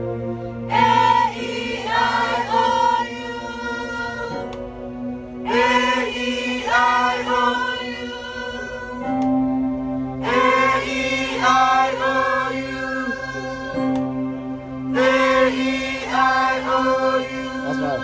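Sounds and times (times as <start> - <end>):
choir singing vowels: 0.0 - 4.6, 5.4 - 9.4, 10.1 - 18.0.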